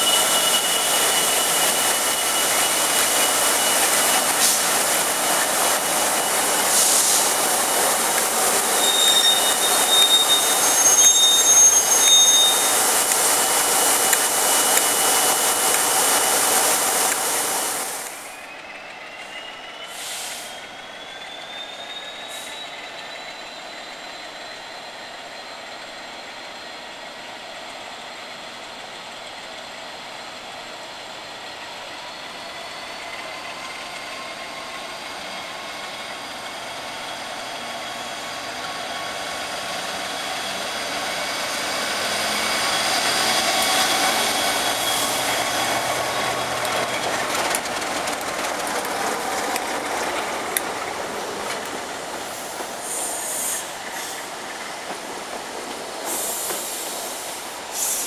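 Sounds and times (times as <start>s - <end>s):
diesel locomotive passing: 0.0s - 58.0s.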